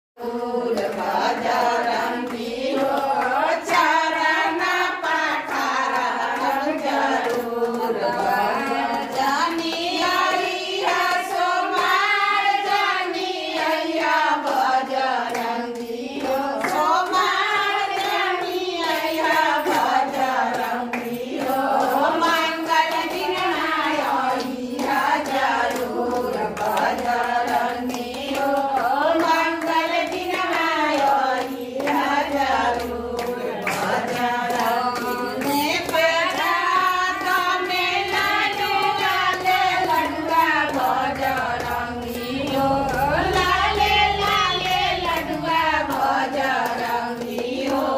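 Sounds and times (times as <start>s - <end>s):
hand clapping: 0.2s - 47.9s
women singing together: 0.2s - 47.9s.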